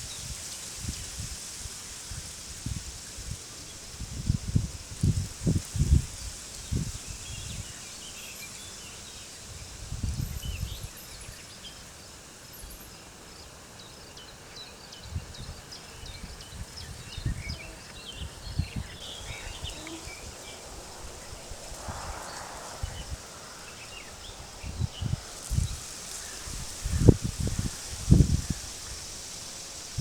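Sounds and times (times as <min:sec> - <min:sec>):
wind rumbling on microphone: 0:00.0 - 0:08.1, 0:09.1 - 0:11.4, 0:15.0 - 0:30.0
steady high hiss: 0:00.0 - 0:30.0
small birds chirping: 0:05.5 - 0:30.0.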